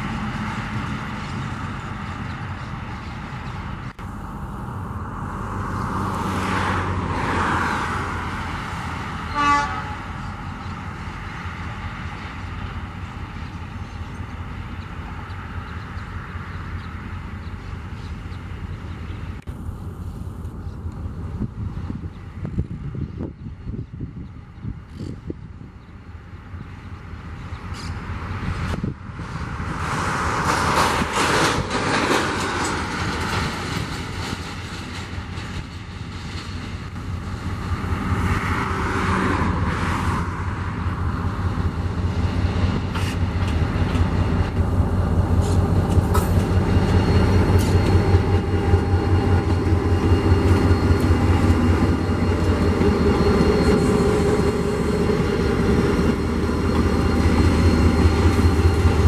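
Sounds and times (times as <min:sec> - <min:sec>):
diesel locomotive drone: 0:00.0 - 0:59.0.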